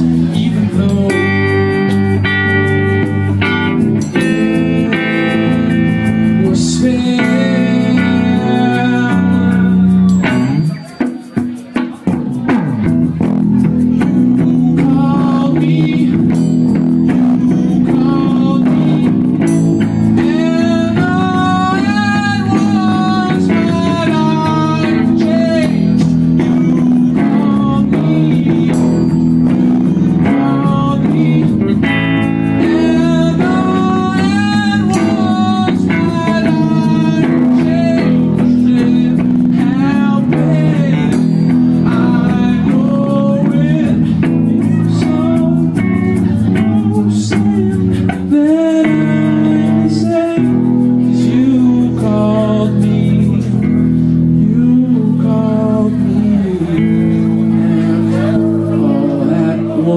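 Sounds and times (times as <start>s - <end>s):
electric bass guitar: 0.0s - 59.9s
guitar: 0.0s - 59.9s
man singing: 0.0s - 59.9s.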